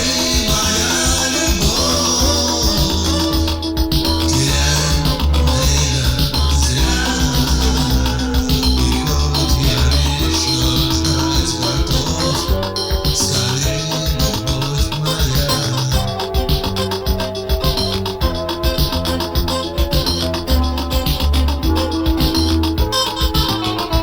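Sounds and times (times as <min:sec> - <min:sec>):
bass line: 0:00.0 - 0:24.0
drum beat: 0:00.0 - 0:24.0
instrumental band music: 0:00.0 - 0:24.0
sustained keyboard chords: 0:00.0 - 0:24.0.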